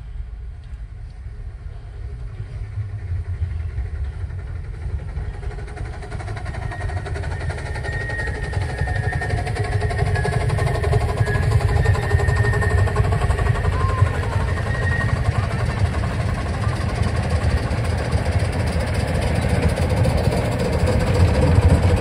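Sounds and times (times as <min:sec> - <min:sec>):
steam locomotive rumbling: 0:00.0 - 0:22.0.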